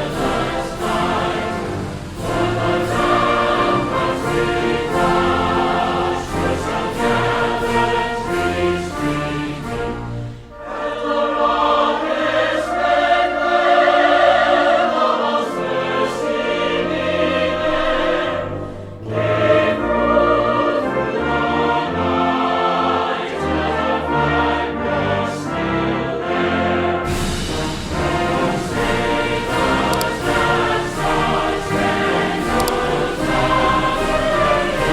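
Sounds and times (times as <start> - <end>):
choral and orchestral music: 0.0 - 34.9.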